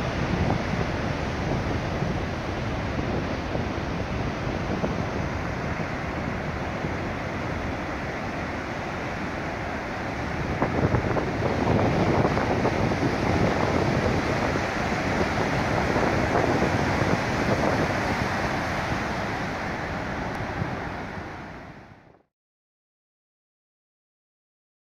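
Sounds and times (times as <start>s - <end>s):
ocean surf breaking on beach: 0.0s - 22.2s.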